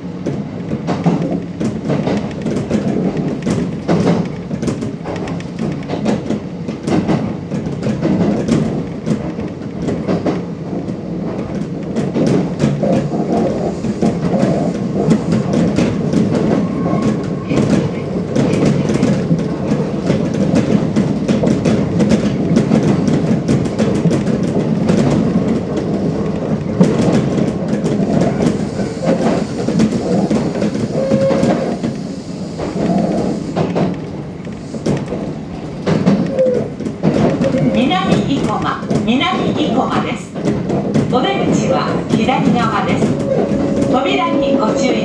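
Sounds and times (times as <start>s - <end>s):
rail joint clicks: 0.0s - 45.0s
train wheels rumbling on rails: 0.0s - 45.0s.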